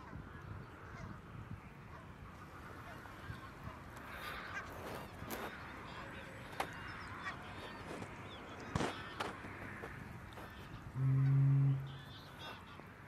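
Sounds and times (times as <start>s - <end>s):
flock of geese honking: 0.0s - 1.2s, 1.8s - 12.8s.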